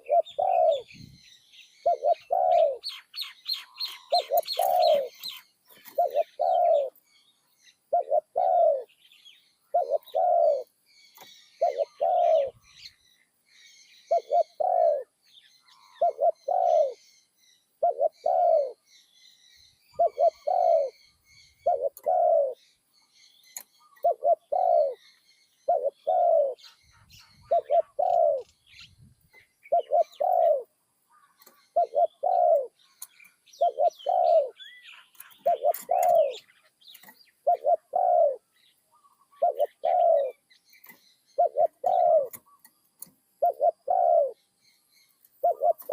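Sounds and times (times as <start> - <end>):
dove cooing: 0.0 - 1.2, 1.8 - 7.0, 7.9 - 9.0, 9.7 - 12.9, 14.1 - 15.2, 15.8 - 17.1, 17.8 - 18.9, 19.9 - 22.6, 23.8 - 28.9, 29.6 - 44.4, 45.4 - 45.9
small birds chirping: 0.0 - 45.9.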